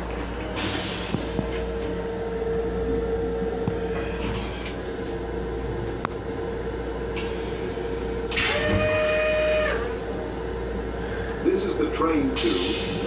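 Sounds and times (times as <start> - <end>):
railcar hum: 0.0 - 13.0.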